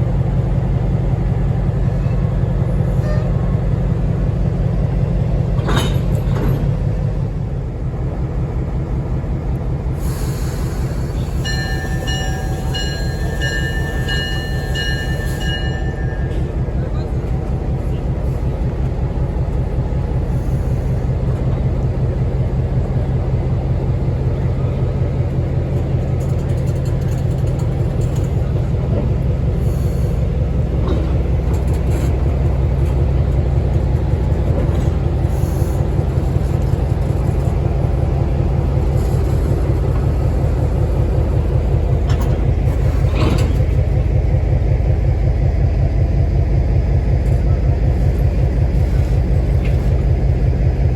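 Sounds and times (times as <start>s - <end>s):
diesel locomotive engine rumble: 0.0s - 50.9s.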